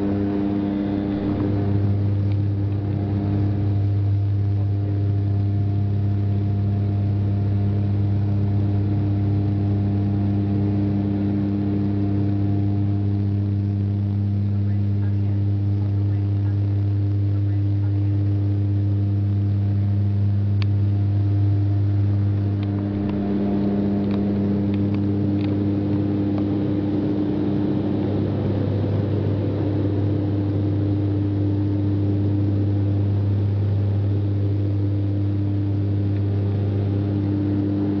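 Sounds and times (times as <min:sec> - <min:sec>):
turboprop engines droning: 0:00.0 - 0:38.0.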